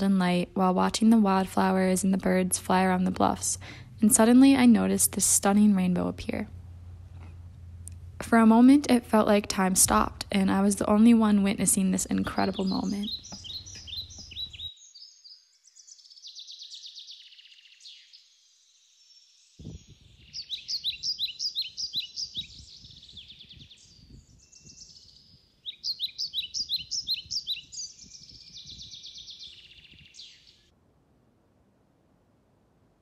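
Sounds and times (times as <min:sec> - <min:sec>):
songbirds singing: 0:00.0 - 0:30.7.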